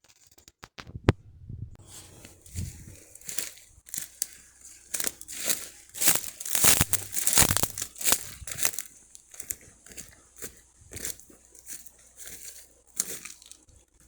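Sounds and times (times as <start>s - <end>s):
crinkling and rustling: 1.8s - 14.0s.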